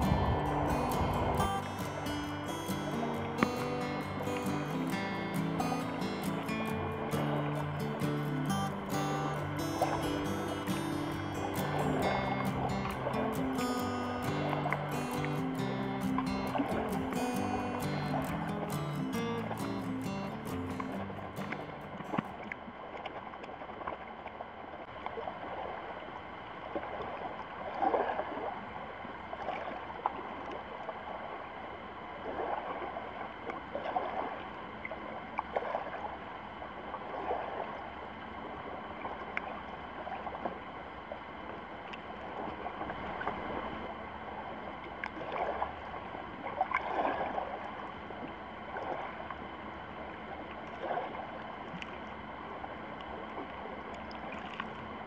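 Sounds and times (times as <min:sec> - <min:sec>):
water lapping at rocky shore: 0:00.0 - 0:55.0.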